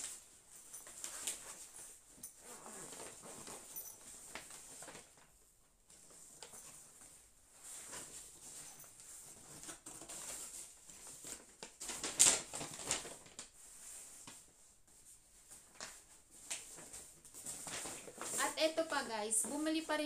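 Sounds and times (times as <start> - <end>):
paper bags and backpack crinkling: 0.0 - 5.4, 7.6 - 14.5, 15.4 - 20.0.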